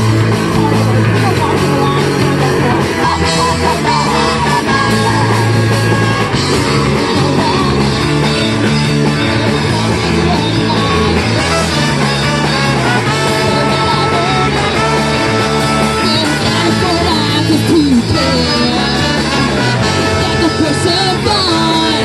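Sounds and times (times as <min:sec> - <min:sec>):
live rock band with horns: 0:00.0 - 0:22.0.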